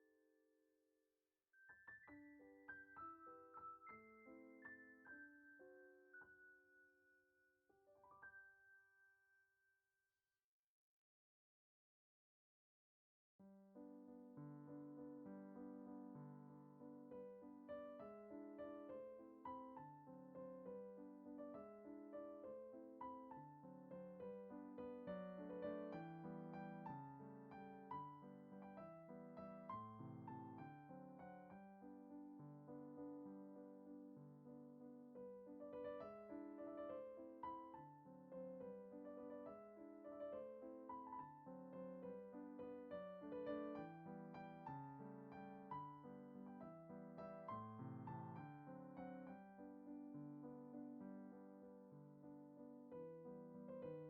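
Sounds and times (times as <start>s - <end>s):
gentle piano melody: 1.6s - 9.2s, 13.4s - 54.0s.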